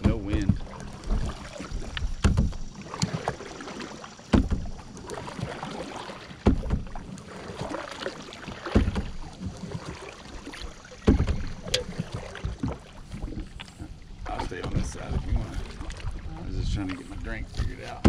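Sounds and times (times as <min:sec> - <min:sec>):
paddle splashing in water: 0:00.0 - 0:18.0
water swirling and dripping: 0:00.0 - 0:18.0.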